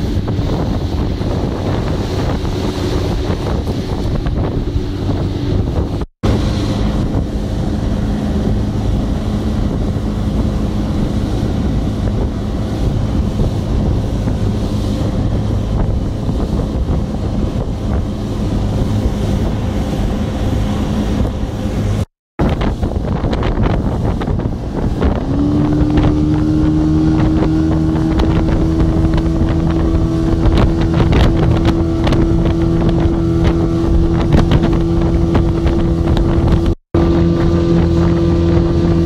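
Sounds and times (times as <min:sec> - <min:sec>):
outboard motor humming: 0:00.0 - 0:39.0
water rushing: 0:00.0 - 0:39.0
wind buffeting microphone: 0:00.0 - 0:39.0.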